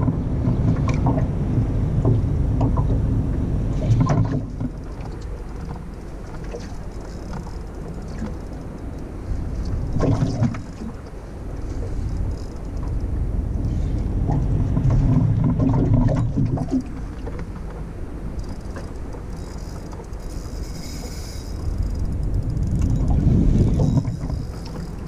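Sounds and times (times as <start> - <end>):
wind and water around a boat: 0.0 - 25.0.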